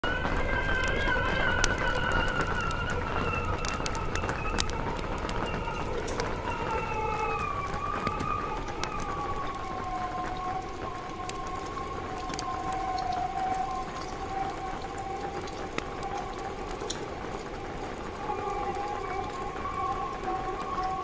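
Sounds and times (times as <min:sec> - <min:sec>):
raindrops tapping on a tent: 0:00.0 - 0:21.0
wind howling and whistling: 0:00.0 - 0:21.0.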